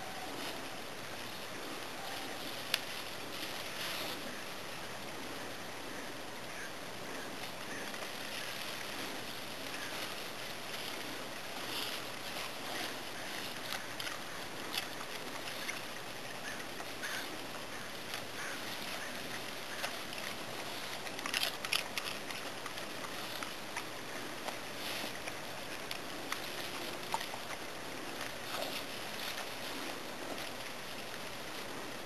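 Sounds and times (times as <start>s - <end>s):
background hiss: 0.0s - 32.0s
leaves rustling and crackling: 0.0s - 32.0s.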